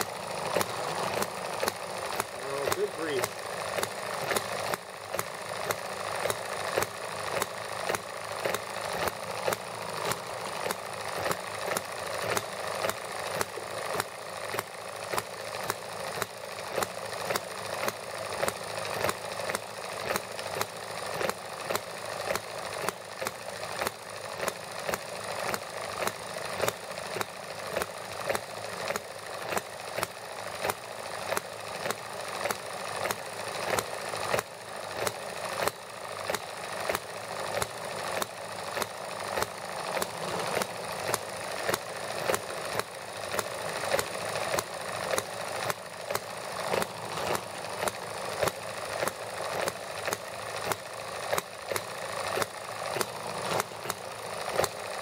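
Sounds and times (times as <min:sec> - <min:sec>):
mechanical clatter: 0:00.0 - 0:55.0
small engine popping: 0:00.0 - 0:55.0.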